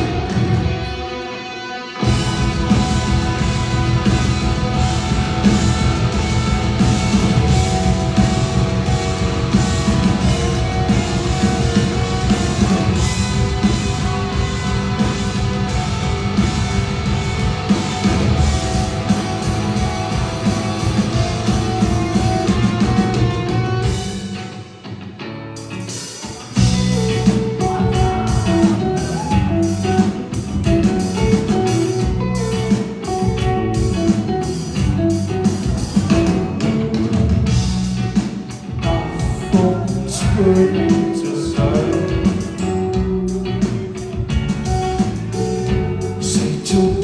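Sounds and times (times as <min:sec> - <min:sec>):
electric guitars: 0:00.0 - 0:47.0
rock band playing live: 0:00.0 - 0:47.0
drum kit beat: 0:02.0 - 0:24.4, 0:25.6 - 0:47.0.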